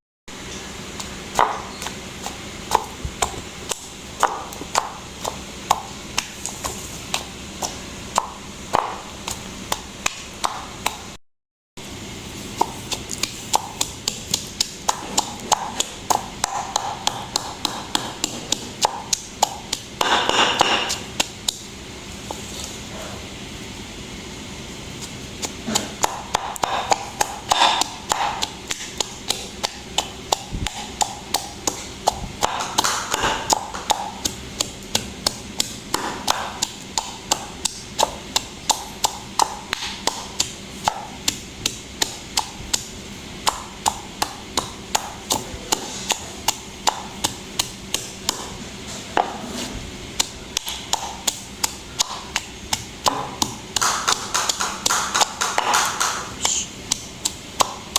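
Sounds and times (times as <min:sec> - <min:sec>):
knife chopping on cutting board: 0:01.0 - 0:11.1, 0:12.5 - 0:21.7, 0:25.0 - 0:57.9.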